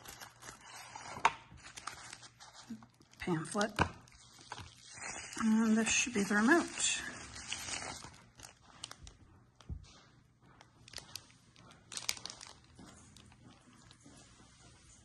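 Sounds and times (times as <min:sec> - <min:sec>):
plastic packaging crinkling: 0:00.0 - 0:09.2, 0:10.8 - 0:14.0.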